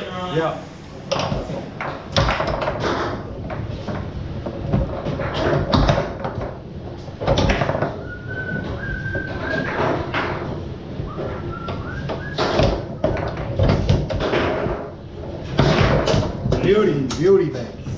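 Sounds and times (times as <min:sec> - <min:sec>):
foosball rods banging: 0:01.0 - 0:17.6
foosball ball knocks and clacks: 0:01.1 - 0:17.5.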